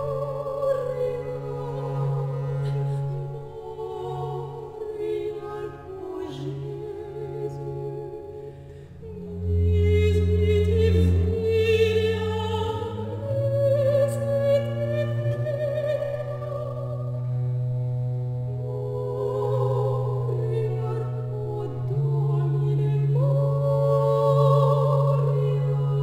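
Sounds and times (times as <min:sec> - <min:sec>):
women singing: 0:00.0 - 0:17.2, 0:18.6 - 0:26.0
baroque ensemble accompaniment: 0:00.0 - 0:26.0.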